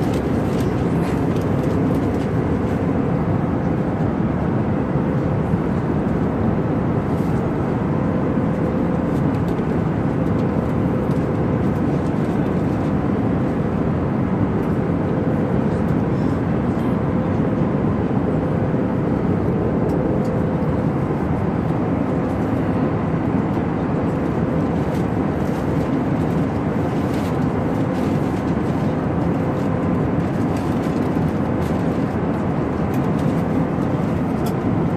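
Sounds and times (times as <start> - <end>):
airliner cabin engine and airflow rush: 0.0 - 34.9.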